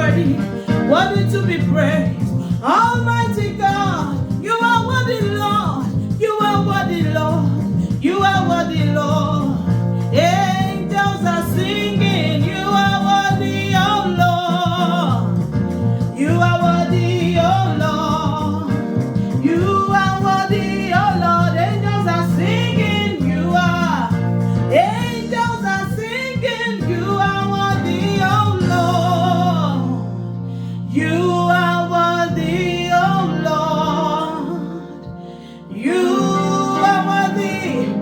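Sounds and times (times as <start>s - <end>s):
instrumental accompaniment: 0.0s - 38.0s.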